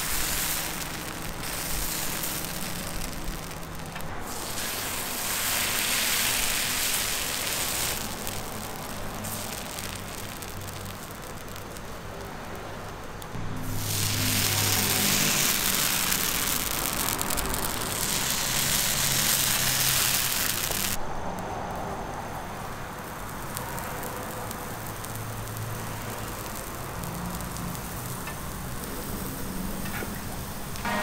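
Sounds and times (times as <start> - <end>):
batter sizzling on griddle: 0.0 - 31.0.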